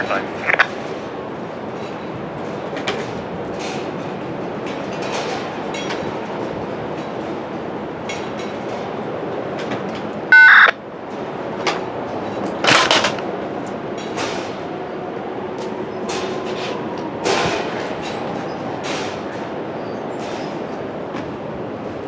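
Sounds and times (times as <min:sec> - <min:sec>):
freight train cars switching: 0:00.0 - 0:22.0.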